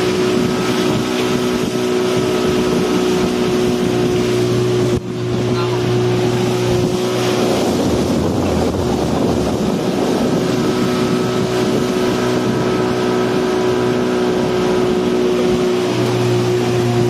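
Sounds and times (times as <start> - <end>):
speedboat engine running: 0.0 - 17.0
wind noise on microphone: 0.0 - 17.0.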